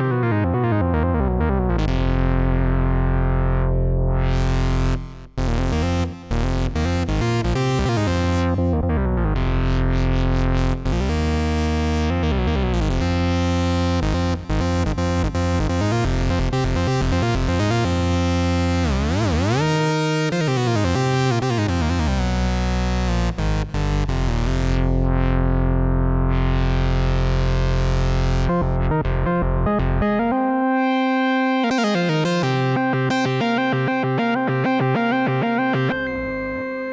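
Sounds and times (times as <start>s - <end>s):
synthesizer playing held chords: 0.0s - 25.2s, 27.8s - 36.9s.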